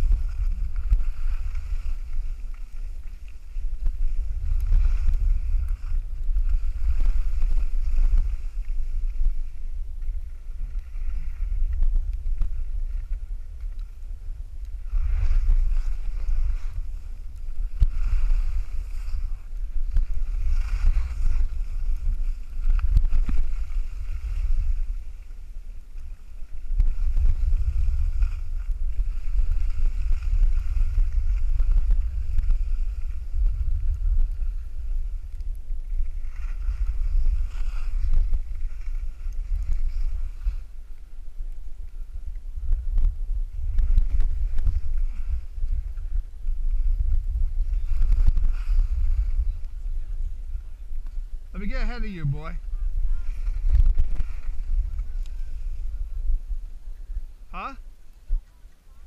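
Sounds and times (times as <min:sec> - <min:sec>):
skis scraping on snow: 0:00.0 - 0:57.2
wind buffeting microphone: 0:00.0 - 0:59.0.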